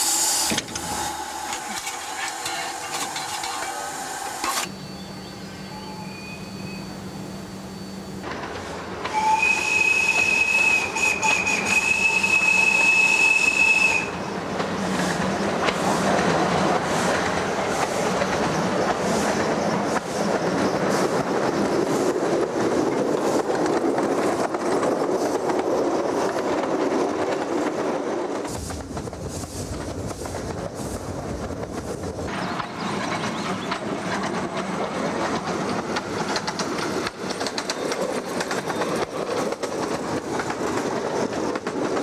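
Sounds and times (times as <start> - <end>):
train wheels clicking on rail joints: 0.0 - 4.7, 8.2 - 42.0
heavy train rumble: 0.0 - 42.0.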